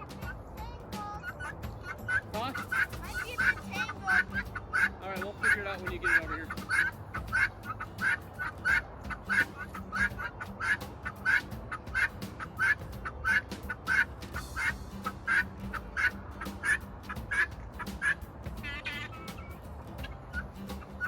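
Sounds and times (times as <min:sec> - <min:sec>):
poultry quacking calls: 0:01.2 - 0:19.5.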